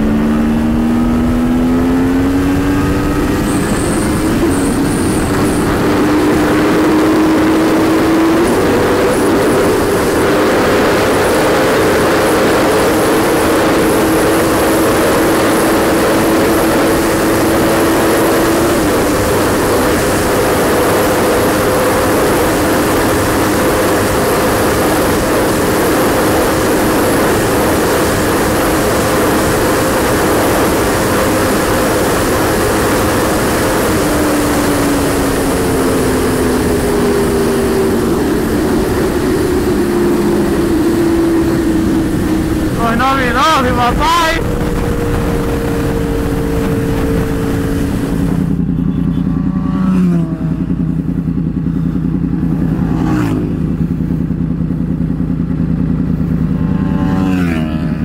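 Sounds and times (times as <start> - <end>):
wind rush on microphone: 0.0 - 48.8
motorcycle engine at high revs: 0.0 - 58.0.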